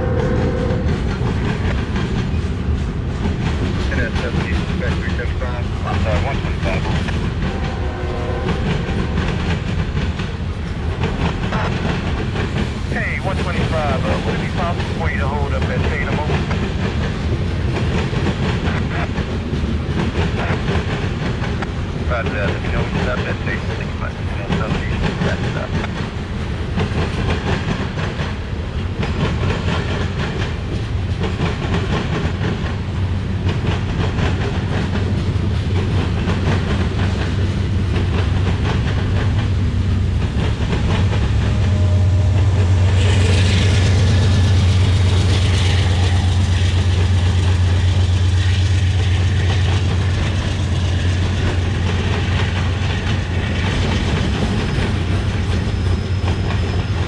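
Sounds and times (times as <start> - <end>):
train wheels clicking over rail joints: 0.0 - 7.8, 8.4 - 57.0
low train rumble: 0.0 - 57.0.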